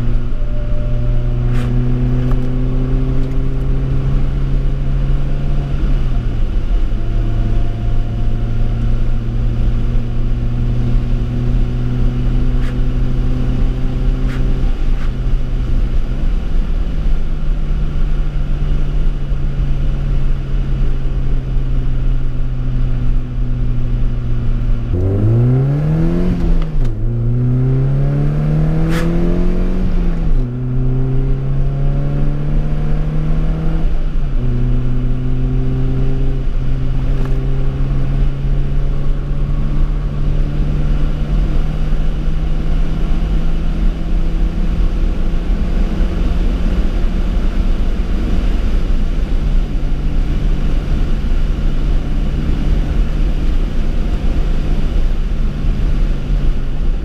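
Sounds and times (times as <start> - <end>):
car engine accelerating and cruising: 0.0 - 57.0.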